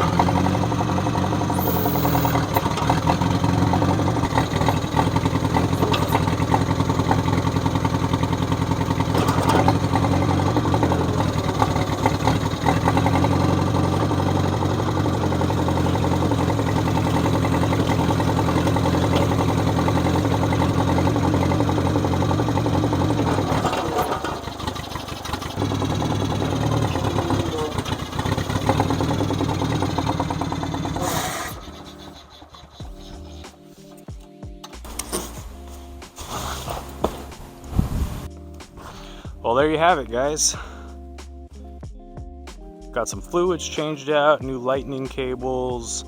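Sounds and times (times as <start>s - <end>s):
tractor engine running: 0.0s - 41.3s.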